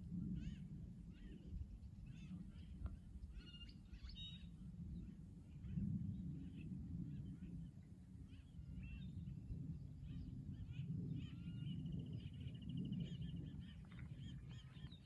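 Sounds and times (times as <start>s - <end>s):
low fluctuating rumble: 0.0s - 15.0s
wild birds chirping: 0.4s - 15.0s.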